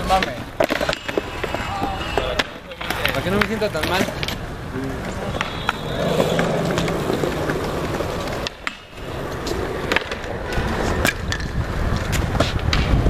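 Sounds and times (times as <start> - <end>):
wheels rolling over concrete: 0.0 - 13.0.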